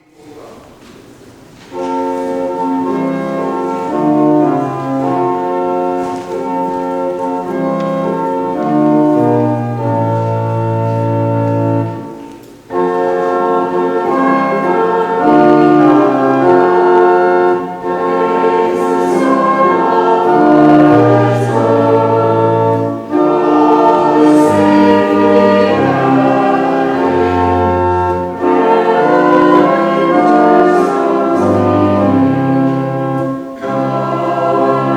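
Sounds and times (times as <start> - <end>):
church organ playing hymn: 0.0 - 34.9.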